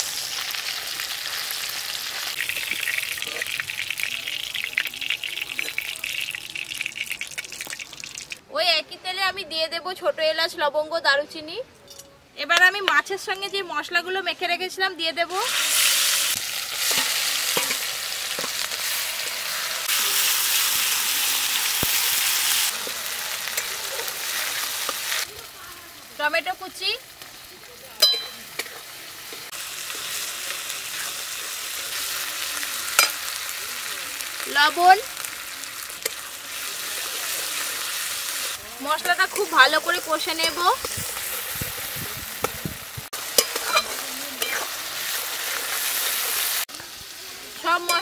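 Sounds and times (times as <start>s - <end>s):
crackling pops of frying: 0.0s - 8.4s, 15.4s - 48.0s
fish sizzling in hot oil: 0.0s - 8.4s, 15.3s - 48.0s.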